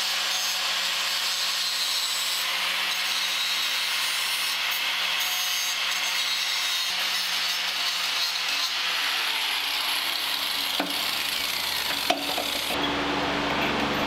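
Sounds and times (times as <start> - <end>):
angle grinder disc hissing on metal: 0.0 - 12.9.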